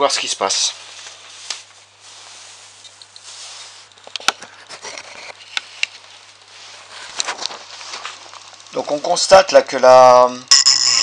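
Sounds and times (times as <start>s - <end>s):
small cooling fan running: 0.0s - 11.0s.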